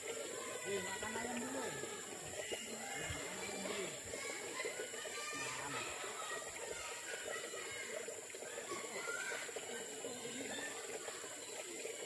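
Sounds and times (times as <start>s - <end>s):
faint indistinct voices: 0.0s - 12.0s
steady high-pitched hiss: 0.0s - 12.0s.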